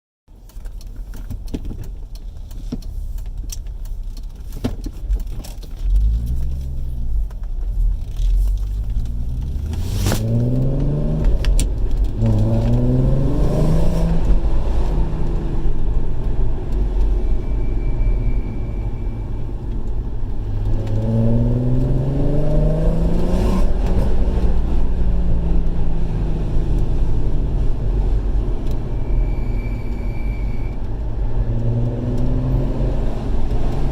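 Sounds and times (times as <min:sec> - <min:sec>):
car engine revving: 0:05.8 - 0:33.9.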